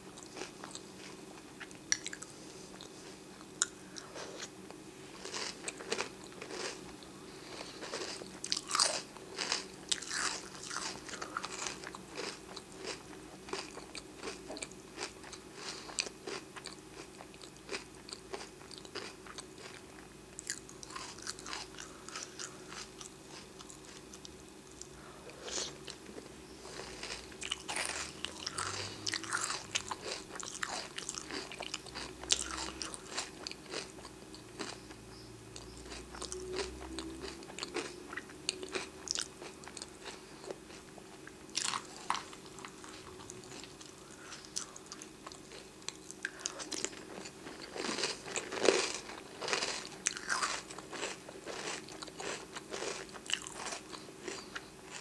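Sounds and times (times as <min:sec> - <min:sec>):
chewing crunchy cereal: 0:00.1 - 0:55.0.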